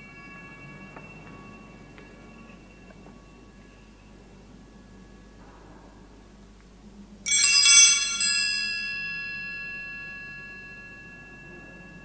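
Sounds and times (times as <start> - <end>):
altar bells jangling: 0.0 - 5.6, 7.3 - 12.0.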